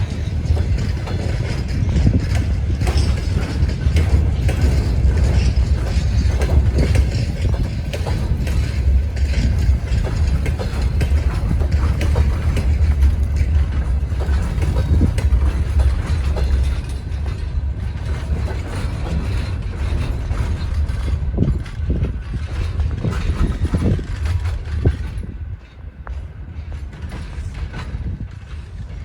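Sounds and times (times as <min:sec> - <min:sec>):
freight train rumbling past: 0:00.0 - 0:29.0
wagons creaking and knocking: 0:00.0 - 0:29.0.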